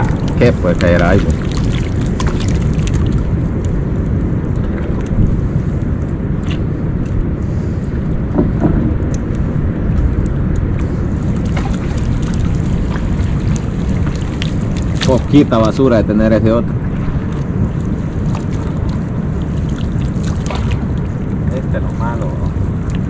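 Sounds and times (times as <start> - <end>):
rushing water: 0.0 - 23.0
wind buffeting microphone: 0.0 - 23.0.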